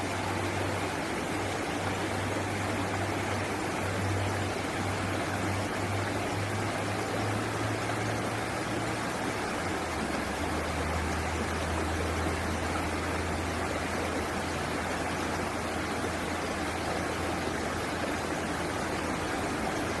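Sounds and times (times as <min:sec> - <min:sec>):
steady low hum: 0:00.0 - 0:20.0
water rushing: 0:00.0 - 0:20.0.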